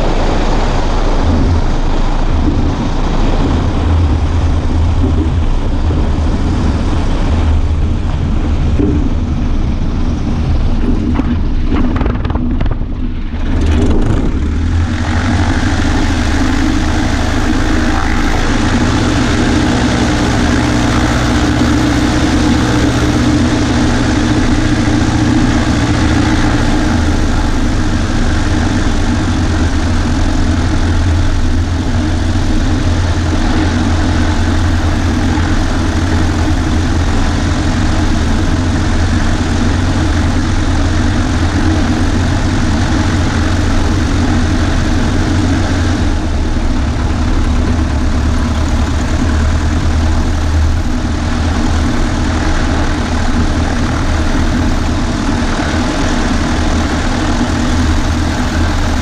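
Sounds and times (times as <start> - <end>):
propeller plane engine running: 0.0 - 59.0.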